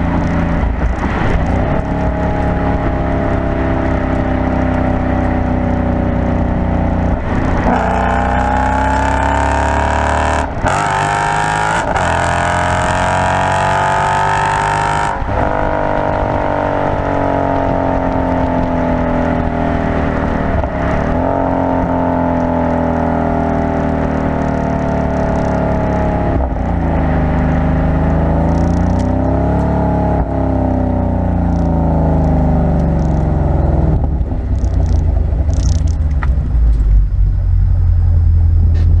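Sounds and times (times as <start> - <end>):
car engine exhaust note: 0.0 - 39.0
road and wind noise: 0.0 - 39.0.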